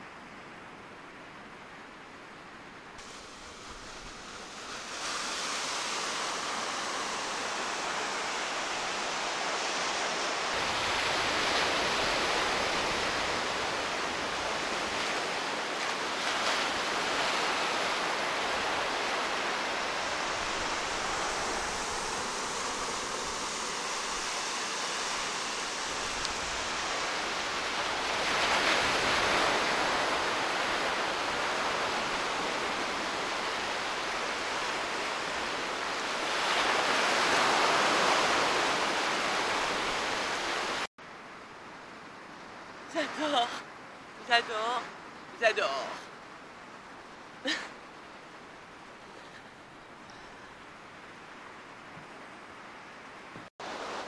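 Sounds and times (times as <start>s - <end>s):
small waves breaking on sand: 3.0s - 40.9s, 41.8s - 54.0s.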